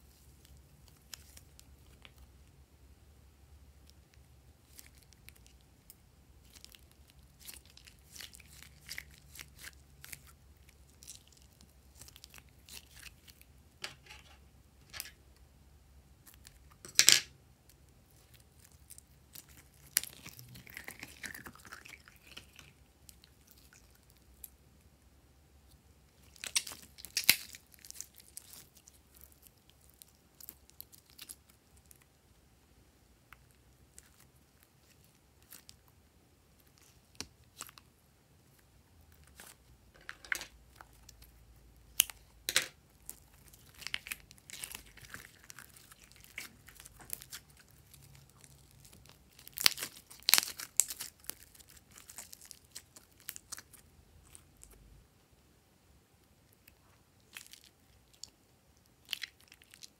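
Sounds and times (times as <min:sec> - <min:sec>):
sticky slime crackles and squishes: 0:00.0 - 0:02.4, 0:03.8 - 0:13.6, 0:17.6 - 0:24.6, 0:26.1 - 0:32.2, 0:33.2 - 0:54.9, 0:56.3 - 0:59.9.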